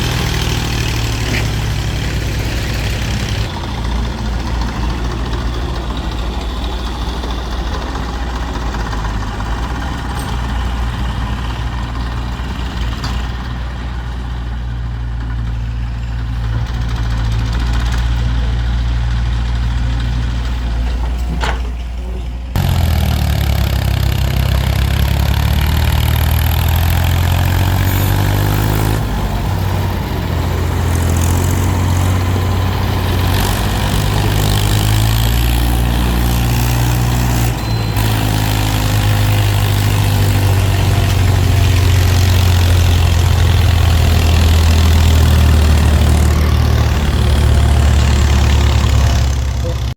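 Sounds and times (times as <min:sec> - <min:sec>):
heavy vehicle engine running: 0:00.0 - 0:49.9.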